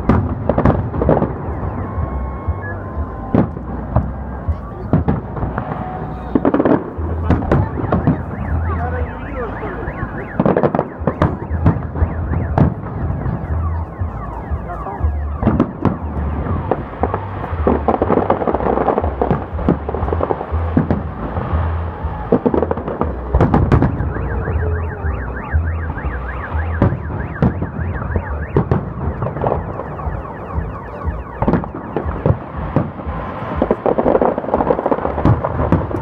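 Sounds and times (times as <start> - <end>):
car alarms wailing: 0.0 - 36.0
fireworks bangs and crackles: 0.0 - 36.0.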